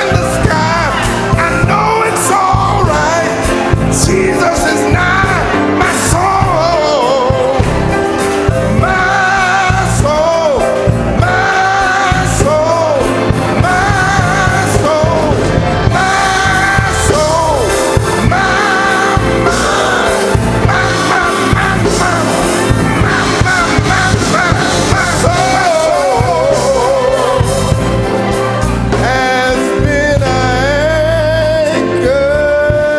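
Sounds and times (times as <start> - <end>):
drum beat with cymbals: 0.0 - 31.1
voices singing gospel: 0.0 - 32.9.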